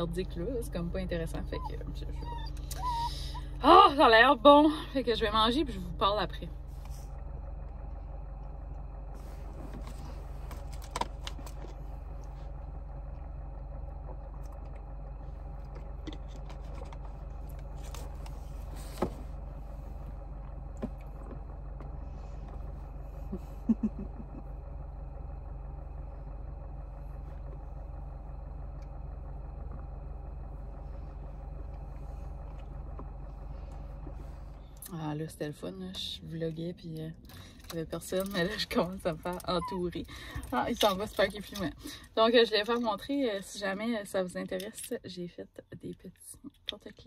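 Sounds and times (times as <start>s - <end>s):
car idling hum: 0.0s - 47.0s.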